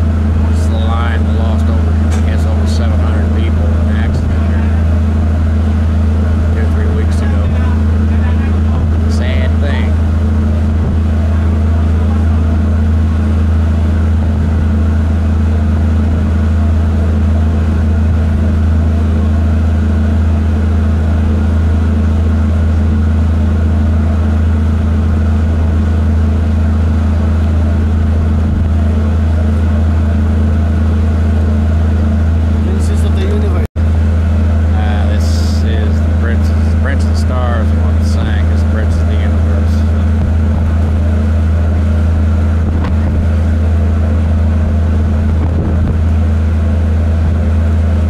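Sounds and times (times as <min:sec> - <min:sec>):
diesel engine droning: 0:00.0 - 0:48.0.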